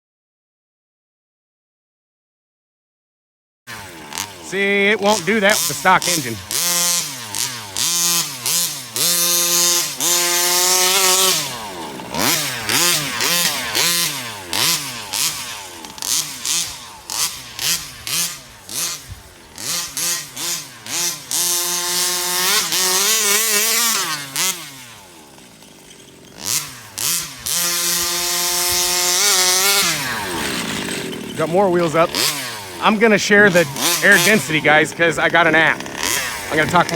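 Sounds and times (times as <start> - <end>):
rc truck engine revving: 3.7 - 36.9.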